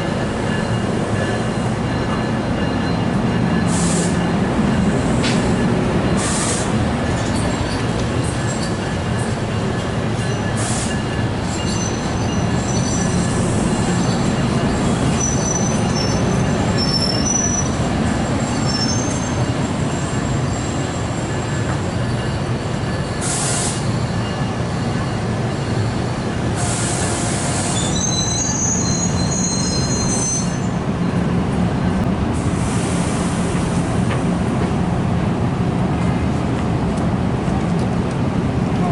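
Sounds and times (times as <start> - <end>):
train wheels squealing: 0.0 - 31.2
train rumbling on rails: 0.0 - 38.9.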